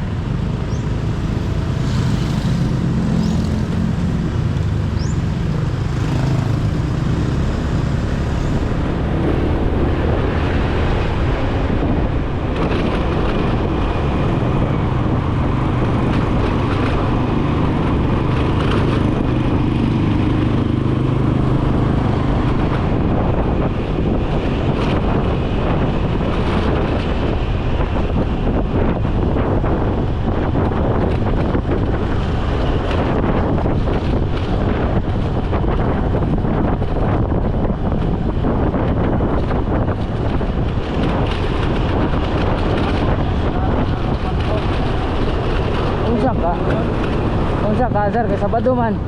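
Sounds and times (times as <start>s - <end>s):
road noise: 0.0s - 49.0s
wind: 0.0s - 49.0s.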